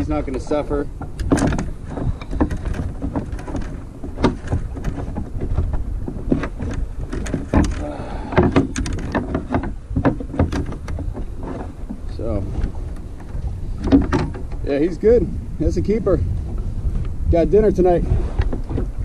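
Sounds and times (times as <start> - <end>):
knocks and thumps on kayak: 0.0 - 19.0
wind rumble on microphone: 0.0 - 19.0.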